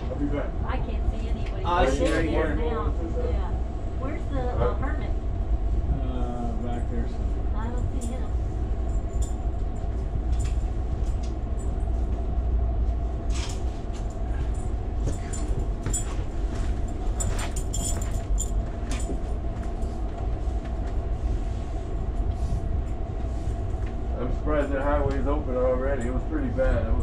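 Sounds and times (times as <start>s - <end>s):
faint steady hum: 0.0s - 27.0s
train rumble from inside: 0.0s - 27.0s.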